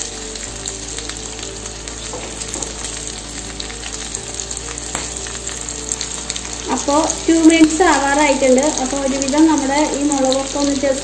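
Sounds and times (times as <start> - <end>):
chillies sizzling in oil: 0.0 - 11.0
small crackles: 0.0 - 11.0.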